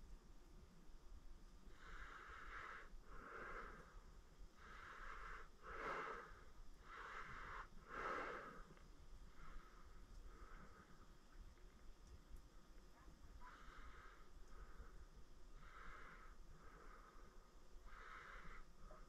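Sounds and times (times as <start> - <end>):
man breathing slowly: 1.7 - 11.8, 13.3 - 19.0.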